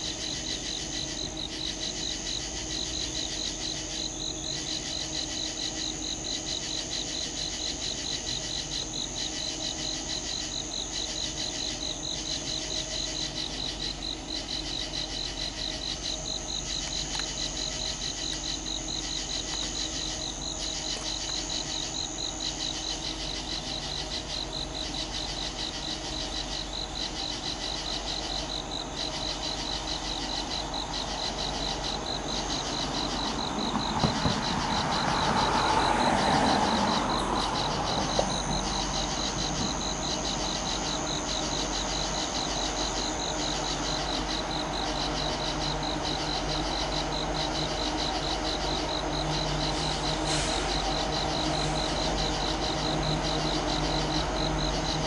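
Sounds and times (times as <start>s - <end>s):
fast pulsing insect trill: 0.0s - 55.0s
high steady insect trill: 0.0s - 55.0s
repeating insect call: 0.0s - 55.0s
train rumble: 0.0s - 55.0s.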